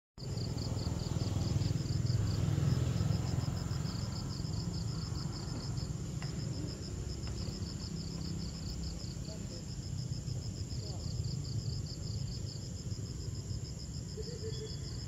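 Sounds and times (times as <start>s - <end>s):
insects chirping: 0.2s - 15.0s.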